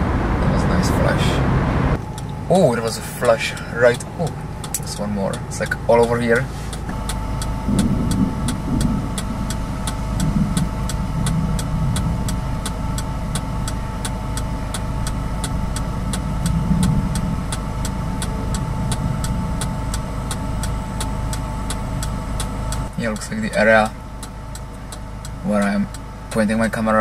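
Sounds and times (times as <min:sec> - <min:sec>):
car engine idling: 0:00.0 - 0:27.0
faint even ticking: 0:02.0 - 0:27.0.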